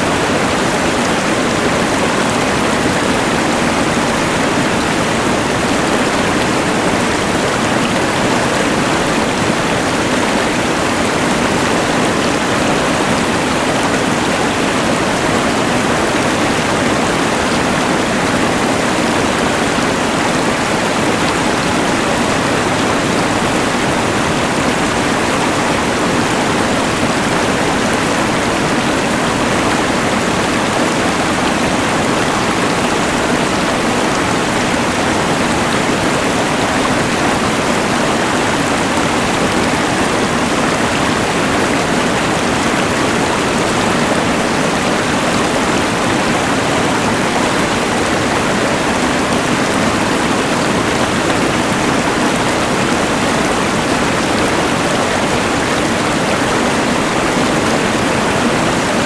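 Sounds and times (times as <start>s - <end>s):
rushing river: 0.0s - 59.0s.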